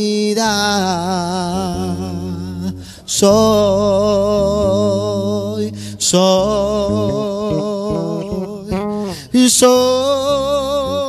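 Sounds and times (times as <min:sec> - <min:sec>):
man singing with vibrato: 0:00.0 - 0:11.0.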